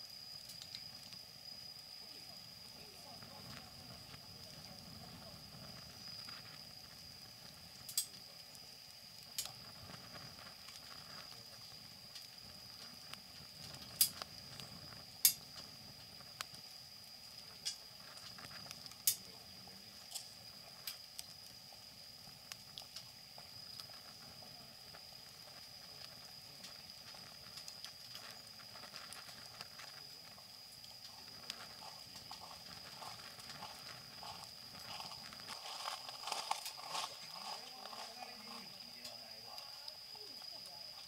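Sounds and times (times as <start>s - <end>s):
faint high whine: 0.0s - 41.0s
wood fire crackling and popping: 0.0s - 41.0s.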